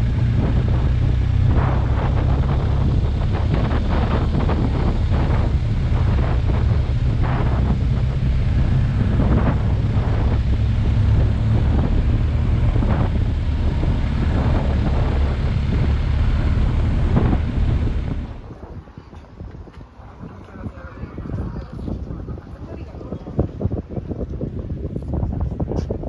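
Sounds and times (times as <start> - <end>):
motorcycle engine drone: 0.0 - 25.3
wind rushing over microphone: 0.0 - 26.0.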